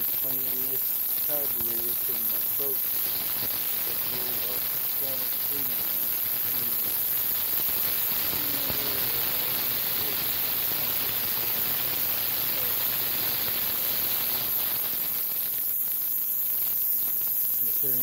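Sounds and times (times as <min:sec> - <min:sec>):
ultrasonic cleaner hissing and humming: 0:00.0 - 0:18.0.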